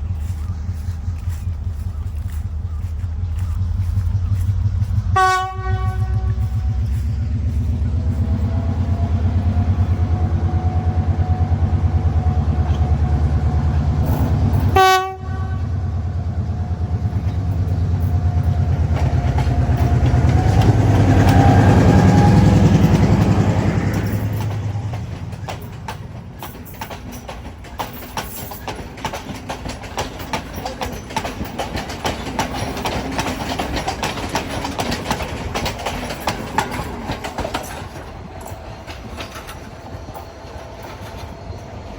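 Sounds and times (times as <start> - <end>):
train engine drone: 0.0 - 41.9
wheels clattering over rail joints: 0.0 - 41.9.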